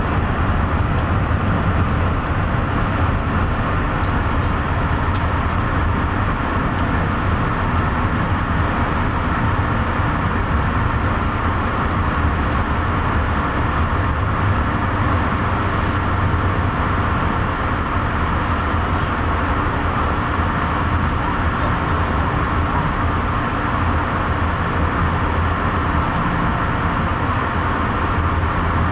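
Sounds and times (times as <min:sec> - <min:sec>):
train rumble and hiss from inside: 0:00.0 - 0:28.9.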